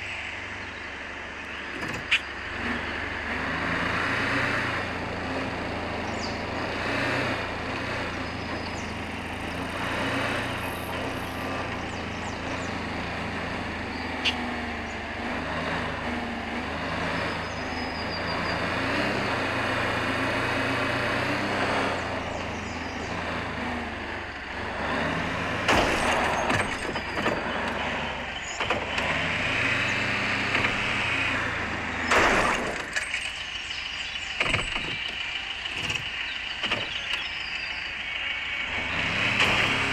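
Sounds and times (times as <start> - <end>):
rumbling road noise: 0.0 - 39.9
vehicle engine running: 0.0 - 39.9.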